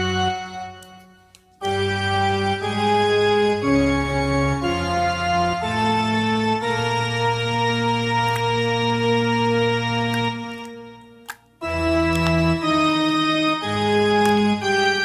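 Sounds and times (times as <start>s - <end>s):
slow organ chords: 0.0s - 15.0s.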